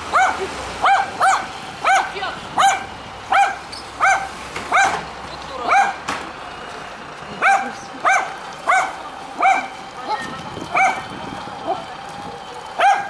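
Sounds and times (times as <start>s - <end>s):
dogs barking: 0.0s - 6.1s, 7.4s - 13.0s.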